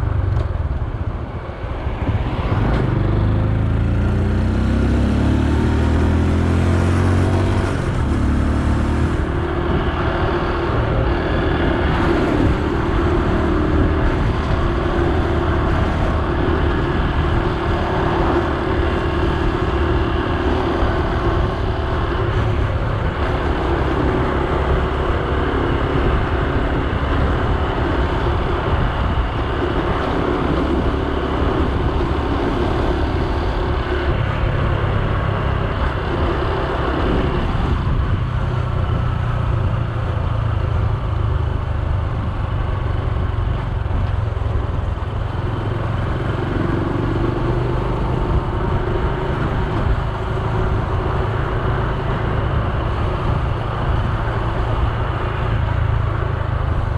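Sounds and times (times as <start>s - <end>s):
motorcycle engine running: 0.0s - 56.9s
road and wind noise: 0.0s - 56.9s.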